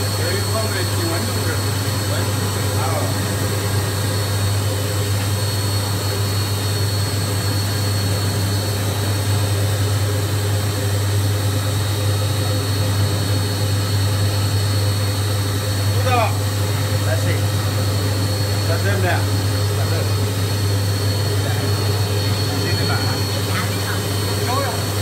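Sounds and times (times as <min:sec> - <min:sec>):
electric motor humming: 0:00.0 - 0:25.0
faint high whine: 0:00.0 - 0:25.0.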